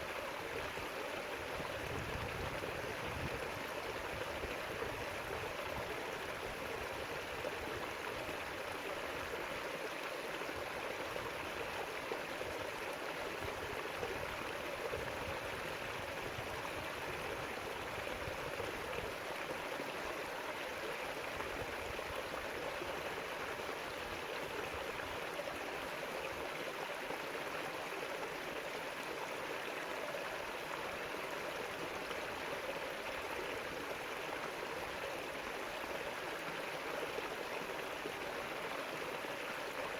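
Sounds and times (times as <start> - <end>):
river water running over stones: 0.0 - 39.9.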